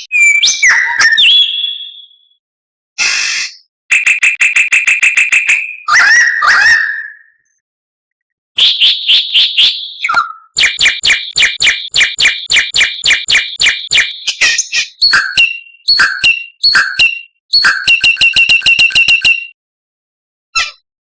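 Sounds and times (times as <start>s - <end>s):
bird chips and whistles: 0.0s - 2.2s, 3.0s - 7.4s, 8.6s - 19.6s.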